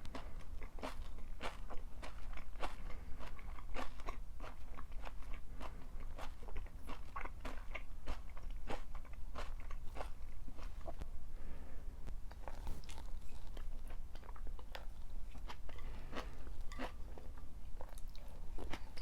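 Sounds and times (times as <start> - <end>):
crunchy chewing: 0.0 - 11.0, 12.3 - 19.0.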